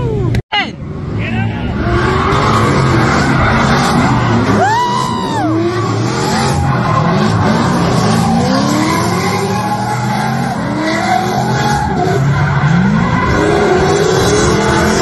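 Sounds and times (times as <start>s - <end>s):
car engines revving: 0.0s - 15.0s
tires squealing: 1.0s - 15.0s.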